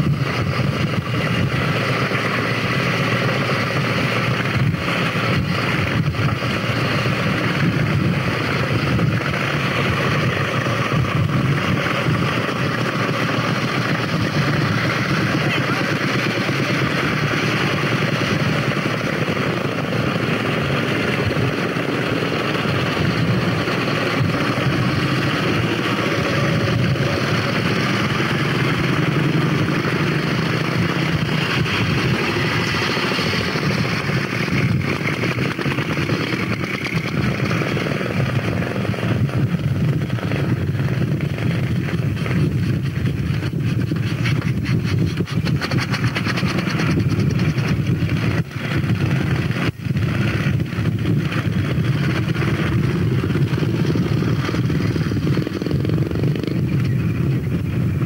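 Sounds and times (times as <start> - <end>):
motorcycle engines passing: 0.0 - 58.0.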